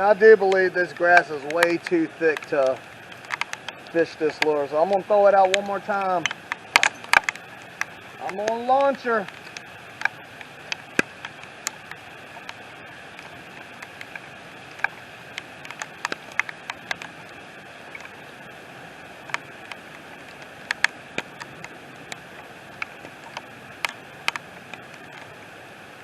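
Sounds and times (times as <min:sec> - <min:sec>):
raindrops ticking close by: 0:00.0 - 0:26.0
steady rain falling: 0:00.0 - 0:26.0.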